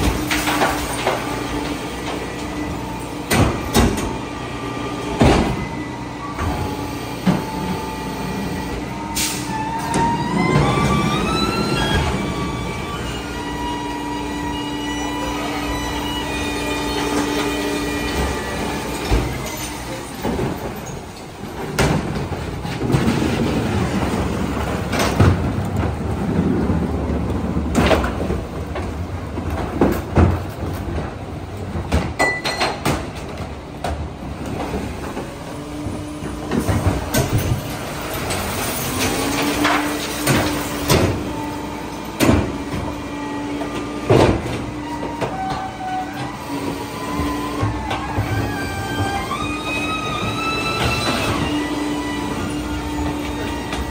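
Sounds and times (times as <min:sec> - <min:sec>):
packer grinding and squealing: 0:00.0 - 0:31.2, 0:34.5 - 0:53.9
garbage truck engine humming: 0:00.0 - 0:53.9.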